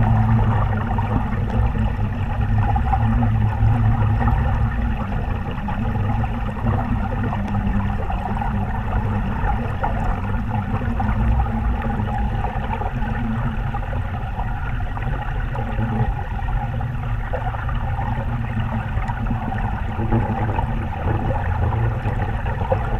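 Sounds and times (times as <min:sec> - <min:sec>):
muffled underwater river rush: 0:00.0 - 0:22.9.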